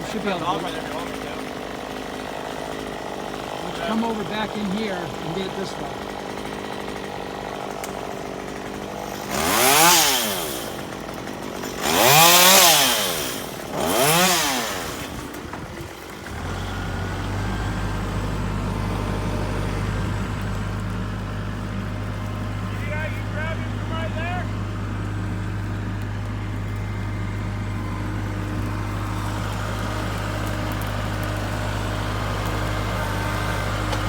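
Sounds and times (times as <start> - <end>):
chainsaw engine low hum: 0.0 - 34.0
chainsaw revving: 0.0 - 34.0.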